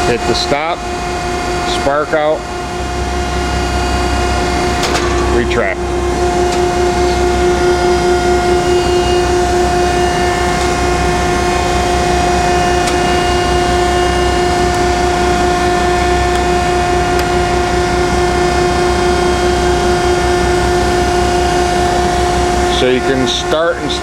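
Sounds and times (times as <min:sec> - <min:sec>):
grinder humming with high whine: 0:00.0 - 0:24.0.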